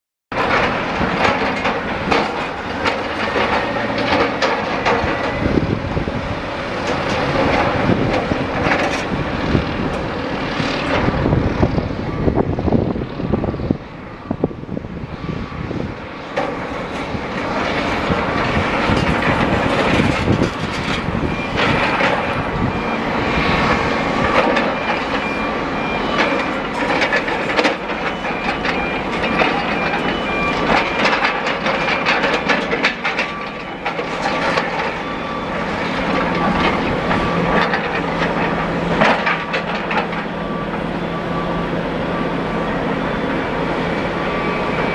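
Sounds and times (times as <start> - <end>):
heavy diesel machinery: 0.3 - 44.9.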